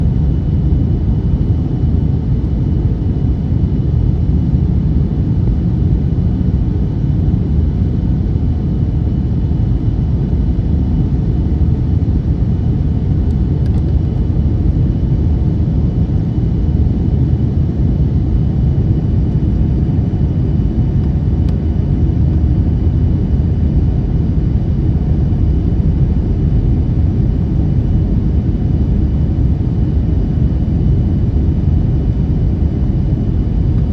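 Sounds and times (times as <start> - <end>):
airliner engines rumbling: 0.0 - 33.9
faint high whine: 0.0 - 33.9.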